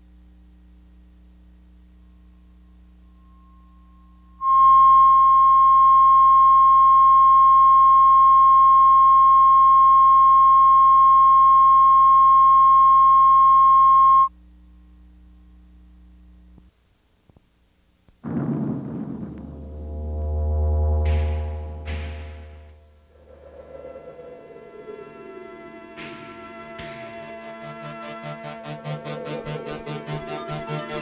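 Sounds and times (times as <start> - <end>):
steady sine tone: 0.0 - 16.8, 17.6 - 31.0
low electrical hum: 0.0 - 30.3.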